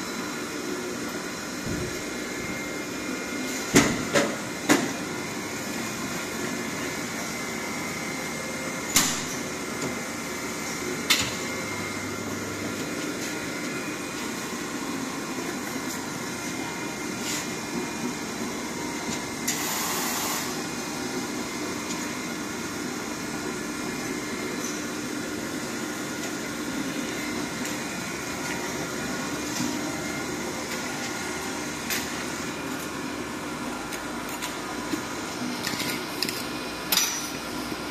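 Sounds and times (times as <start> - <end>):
machine fan hum: 0.0 - 37.9.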